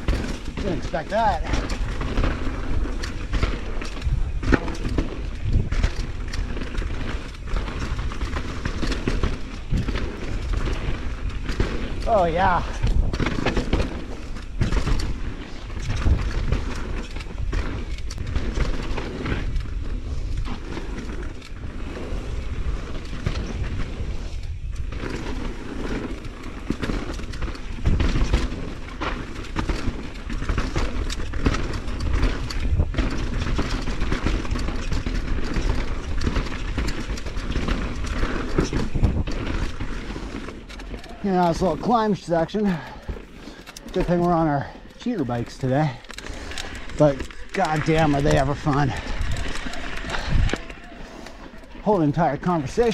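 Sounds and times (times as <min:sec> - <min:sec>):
wind buffeting microphone: 0:00.0 - 0:29.0, 0:29.8 - 0:52.9
bike knocking and rattling: 0:00.0 - 0:52.9
bike tyres rumbling on dirt: 0:00.0 - 0:52.9.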